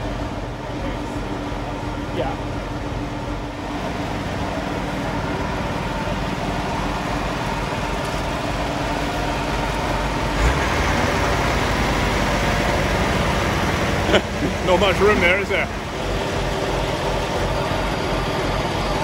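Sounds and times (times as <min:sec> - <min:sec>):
crane engine running: 0:00.0 - 0:19.0.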